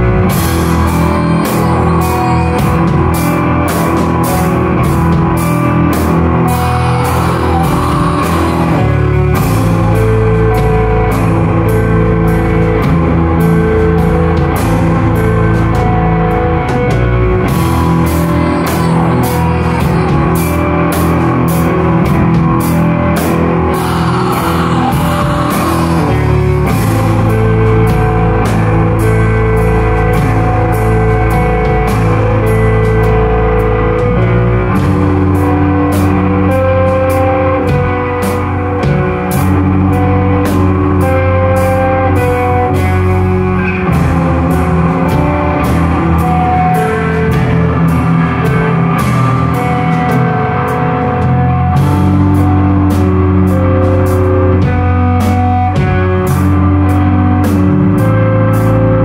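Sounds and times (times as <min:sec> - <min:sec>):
drum kit beat: 0:00.0 - 0:59.0
electric guitar: 0:00.0 - 0:59.0.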